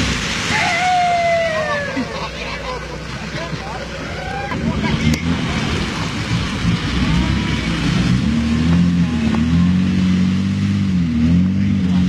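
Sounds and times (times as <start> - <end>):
mud and water sloshing: 0.0 - 12.0
pickup engine labouring: 0.0 - 12.0.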